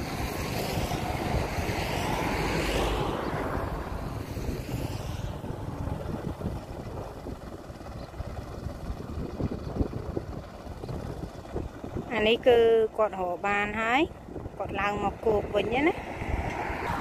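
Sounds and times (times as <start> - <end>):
motorboat engine passing: 0.0 - 17.0.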